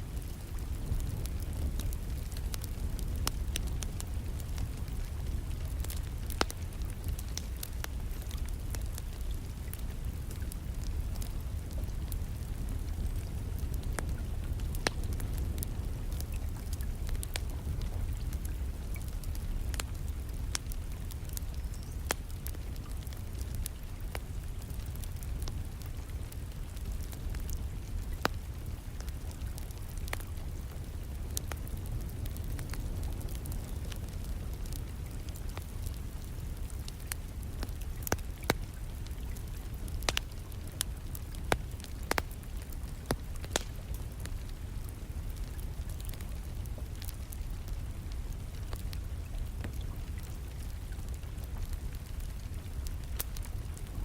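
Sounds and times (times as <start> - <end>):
burning logs popping: 0.0 - 54.0
rain falling: 0.0 - 54.0
wood fire crackling: 0.0 - 54.0.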